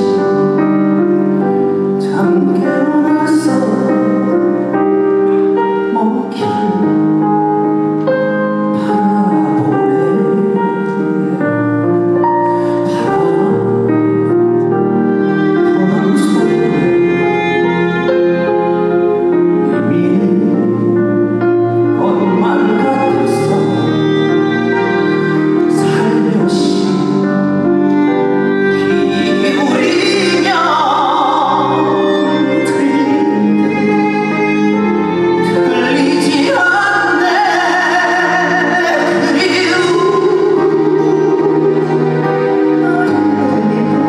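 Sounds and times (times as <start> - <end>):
band playing slow ballad with piano: 0.0 - 44.0.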